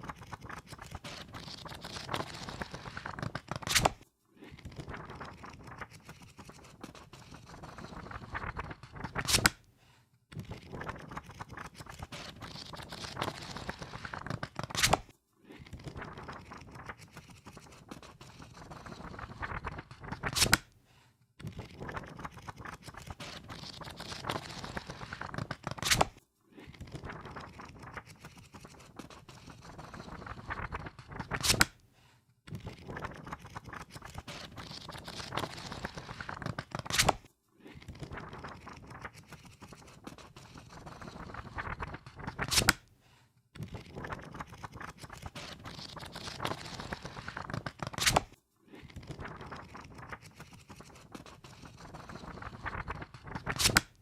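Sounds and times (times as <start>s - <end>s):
book pages riffling: 0.0s - 4.0s, 4.6s - 9.6s, 10.6s - 15.1s, 15.8s - 20.7s, 21.8s - 26.2s, 26.9s - 31.8s, 32.8s - 37.3s, 38.3s - 42.8s, 43.8s - 54.0s.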